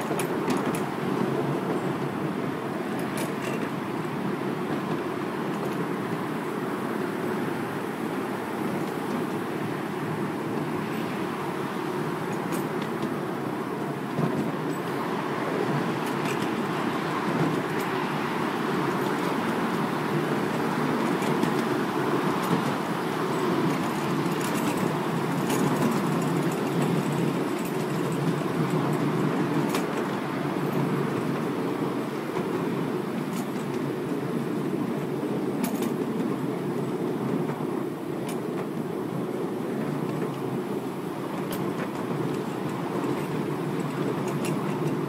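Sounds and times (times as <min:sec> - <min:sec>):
light clicks of train wheels: 0:00.0 - 0:06.4, 0:08.6 - 0:09.4, 0:11.9 - 0:45.0
train wheels rumbling on rails: 0:00.0 - 0:45.0.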